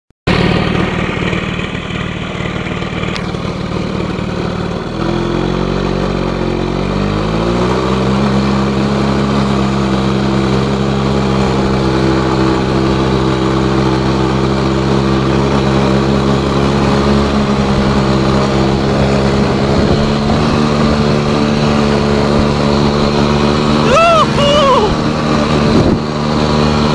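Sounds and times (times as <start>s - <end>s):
atv engine revving: 0.3s - 26.9s.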